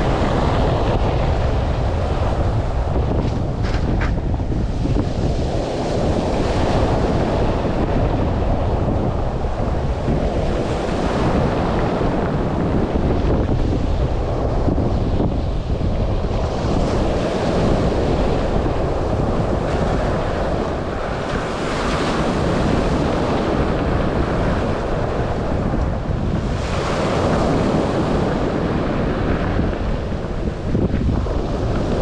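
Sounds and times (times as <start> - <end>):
surf breaking on shore: 0.0 - 32.0
wind on microphone: 0.0 - 32.0.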